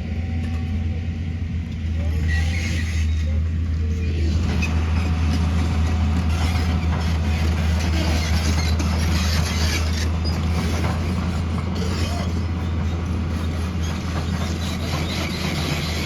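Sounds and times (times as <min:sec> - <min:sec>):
heavy machinery diesel engine: 0:00.0 - 0:16.0.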